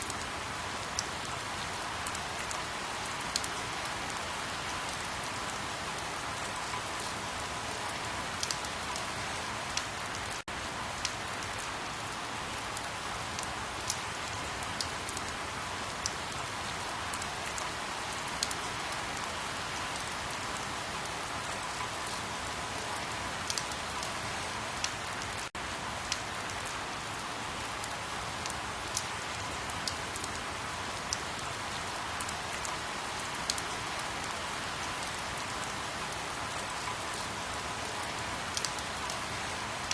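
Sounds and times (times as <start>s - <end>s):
rain falling: 0.0s - 39.9s
raindrops pattering: 0.0s - 39.9s.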